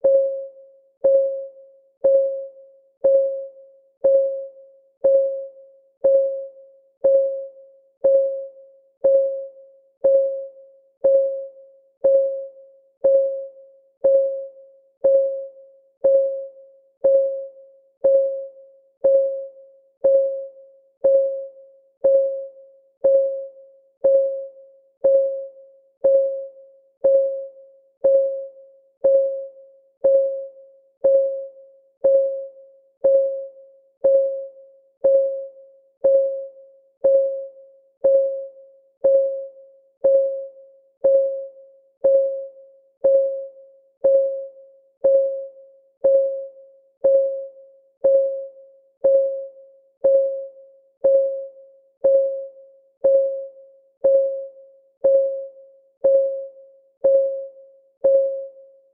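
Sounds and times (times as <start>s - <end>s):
timer clock ticking: 1.0s - 58.5s.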